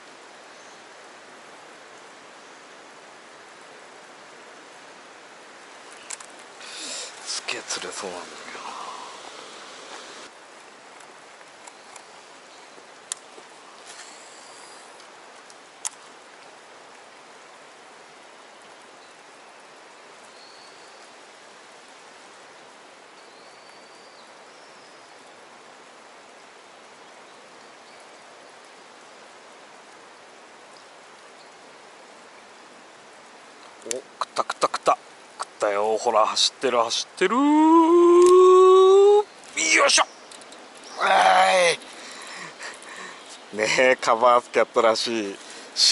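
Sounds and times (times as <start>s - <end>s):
hiss of moving water: 0.0s - 45.9s.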